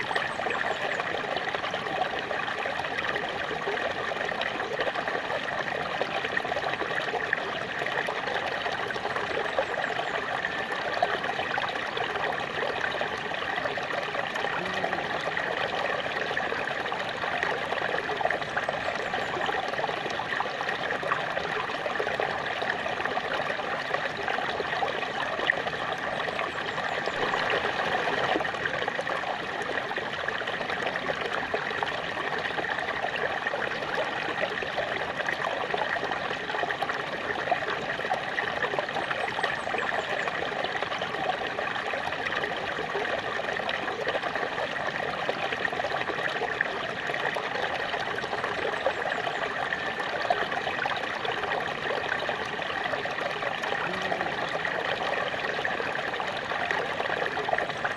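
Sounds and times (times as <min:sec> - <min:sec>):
small waterfall splashing: 0:00.0 - 0:57.9.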